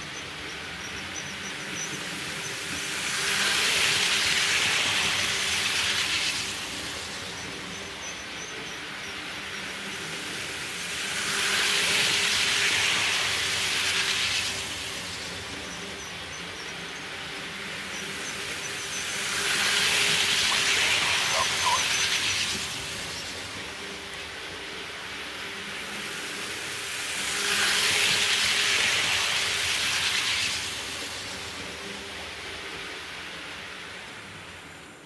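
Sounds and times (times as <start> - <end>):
model trains rolling hum: 0.0 - 35.0
wheels rushing on rails: 0.0 - 35.0.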